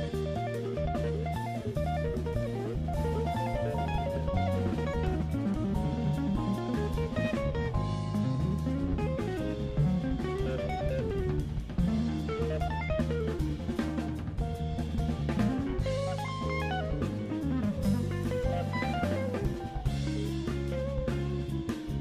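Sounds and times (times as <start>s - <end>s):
bass: 0.0s - 22.0s
drum kit beat: 0.0s - 22.0s
guitar: 0.0s - 22.0s.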